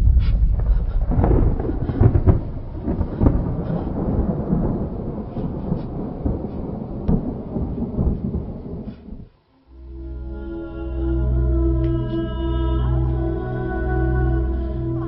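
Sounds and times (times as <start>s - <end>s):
rain: 0.0s - 15.0s
thunder rumbling: 0.0s - 15.0s.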